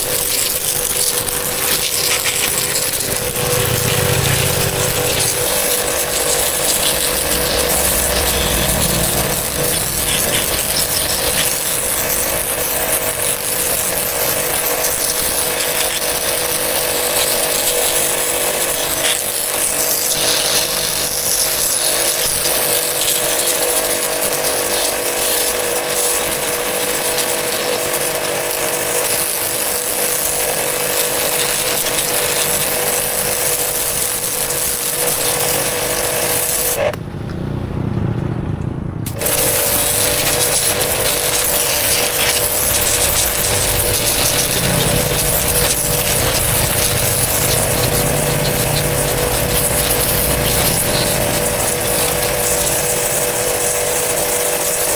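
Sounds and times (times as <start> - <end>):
power tool running: 0.0 - 37.6, 39.0 - 54.9.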